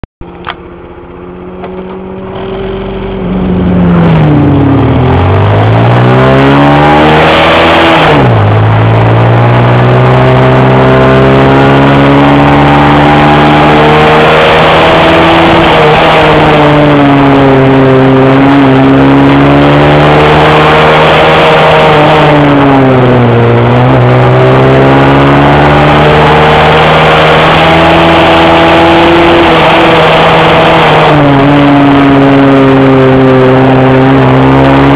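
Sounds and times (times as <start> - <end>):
motorbike engine revving: 0.3 - 34.9.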